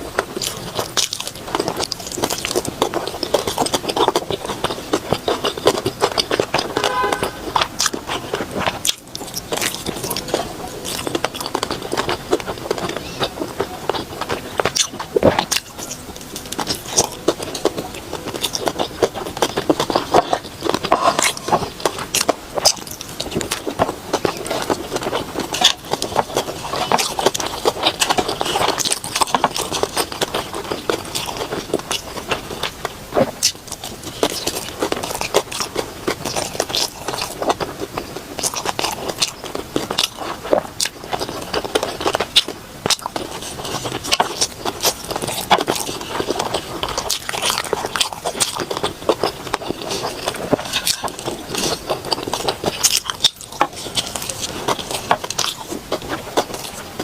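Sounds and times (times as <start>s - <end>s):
chewing and biting: 0.0s - 57.0s.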